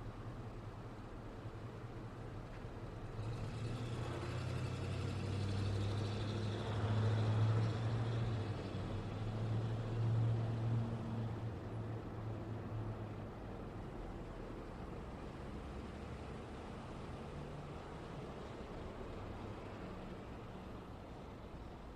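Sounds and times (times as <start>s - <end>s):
vehicles passing: 0.0s - 21.9s.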